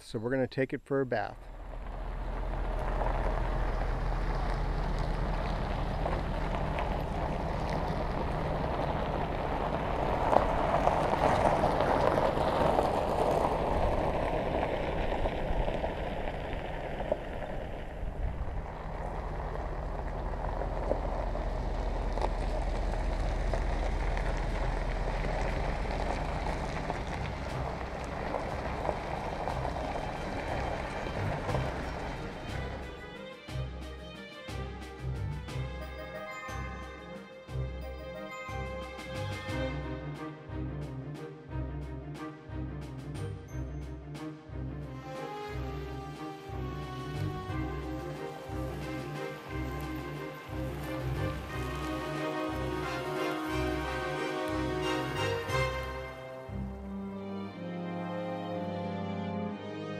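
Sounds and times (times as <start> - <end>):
engine hum: 1.2 - 59.9.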